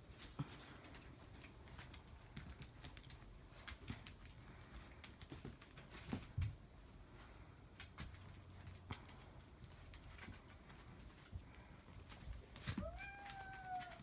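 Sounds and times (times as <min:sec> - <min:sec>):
light clicks and taps: 0:00.4 - 0:06.6, 0:07.2 - 0:14.0.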